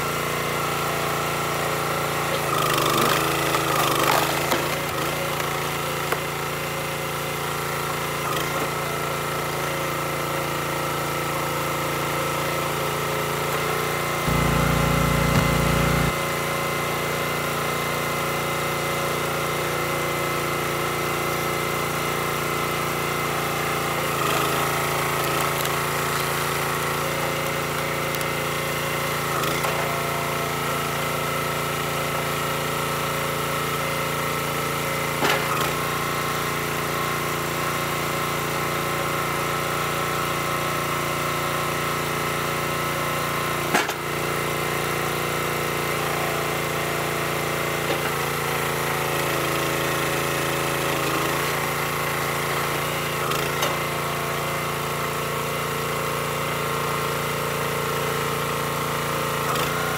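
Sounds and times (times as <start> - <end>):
small gas engine running: 0.0 - 59.9.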